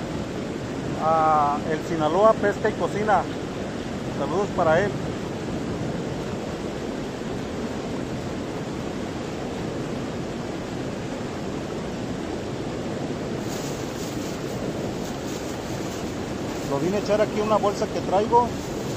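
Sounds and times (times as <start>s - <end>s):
river water rushing over rapids: 0.0s - 18.9s.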